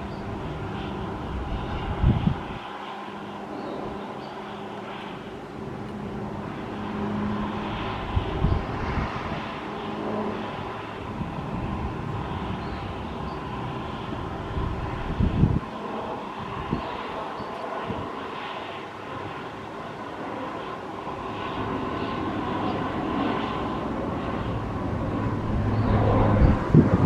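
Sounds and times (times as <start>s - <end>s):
turboprop plane droning: 0.0s - 27.0s.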